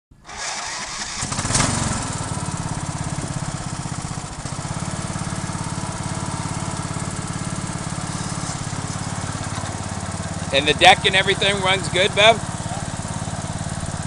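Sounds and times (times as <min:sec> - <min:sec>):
riding lawn mower engine running: 0:00.1 - 0:14.0.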